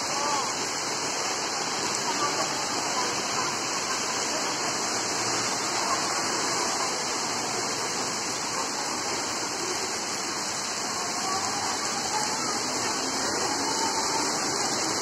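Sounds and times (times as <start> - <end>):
heavy rain on wet paving: 0.0 - 15.0.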